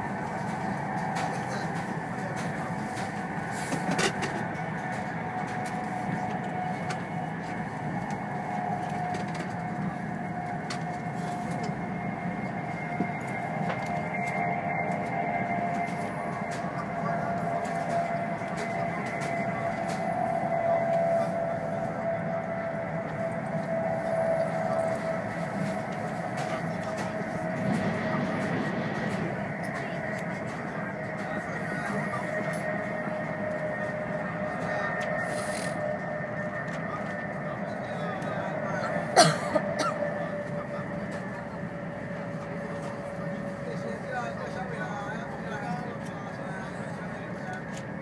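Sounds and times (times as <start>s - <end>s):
train running noise inside cabin: 0.0s - 48.0s.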